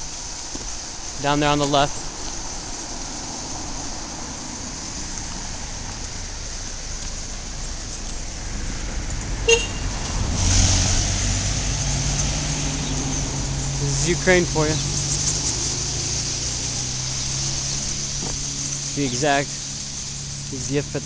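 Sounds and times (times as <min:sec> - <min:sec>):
outdoor street noise: 0:00.0 - 0:21.0
car driving past: 0:02.4 - 0:21.0.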